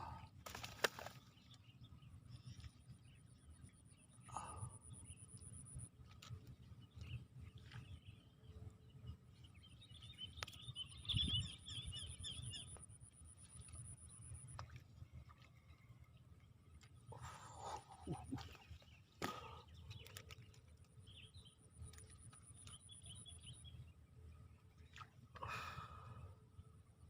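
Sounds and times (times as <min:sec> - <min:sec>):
birds chirping: 0:00.0 - 0:12.9, 0:15.6 - 0:26.8.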